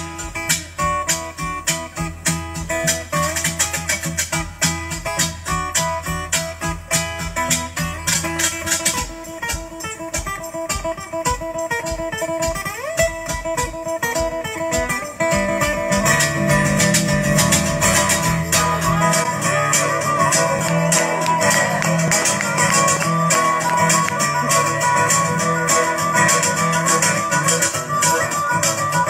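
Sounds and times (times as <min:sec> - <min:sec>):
guitar solo: 0:00.0 - 0:29.0
hand percussion: 0:00.0 - 0:29.0.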